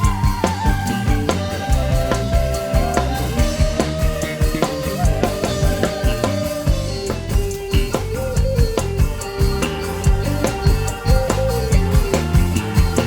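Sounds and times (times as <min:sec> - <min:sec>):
bass line: 0:00.0 - 0:13.0
drum kit beat: 0:00.0 - 0:13.0
held melody line: 0:00.0 - 0:13.0.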